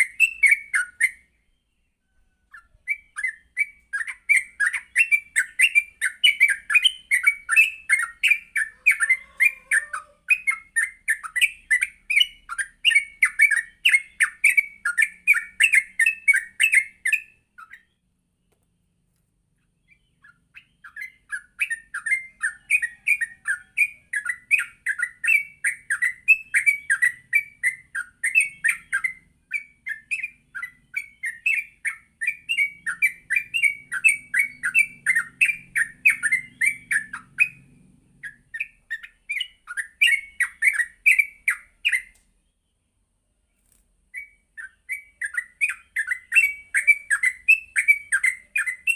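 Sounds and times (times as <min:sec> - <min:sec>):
bird singing chirping notes: 0:00.0 - 0:43.0, 0:44.1 - 0:48.9.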